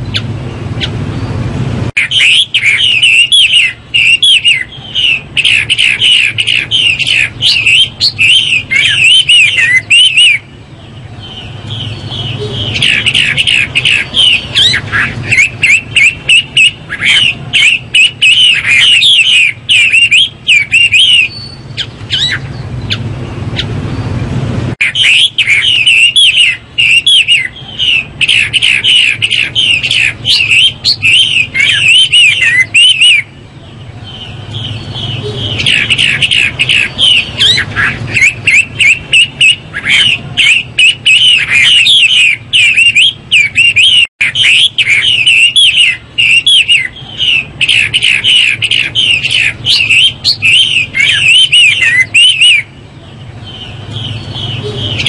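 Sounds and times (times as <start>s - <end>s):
bird singing whistled phrases: 2.0s - 10.5s, 11.2s - 23.0s, 24.8s - 33.3s, 34.1s - 52.7s, 53.4s - 55.0s.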